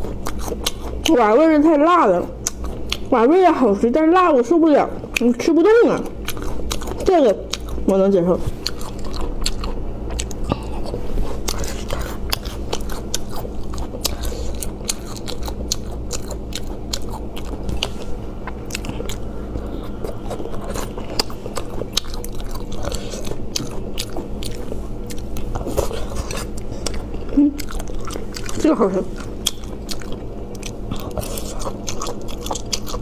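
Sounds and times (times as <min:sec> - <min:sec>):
chewing and crunching: 0:00.0 - 0:03.7, 0:05.0 - 0:33.0.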